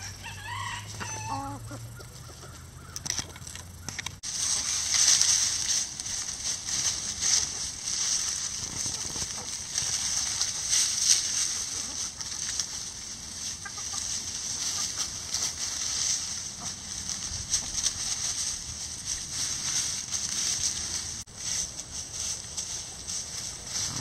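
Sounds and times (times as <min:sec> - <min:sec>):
hens clucking: 0:00.0 - 0:24.0
rustling of straw and leaves: 0:00.0 - 0:24.0.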